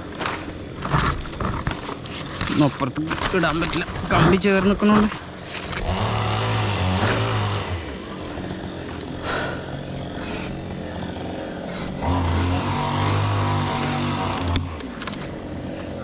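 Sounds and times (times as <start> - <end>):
chainsaw engine running: 0.7 - 16.0.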